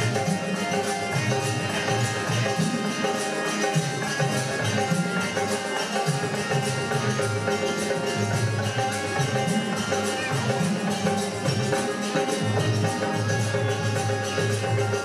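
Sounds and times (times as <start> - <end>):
harmonium: 0.0 - 15.0.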